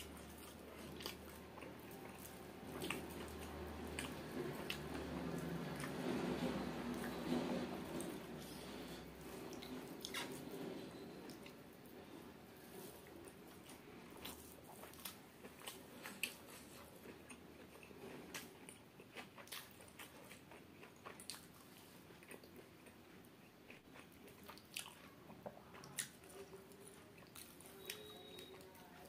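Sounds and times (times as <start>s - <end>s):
chewing and biting: 0.0s - 7.2s, 12.8s - 29.0s.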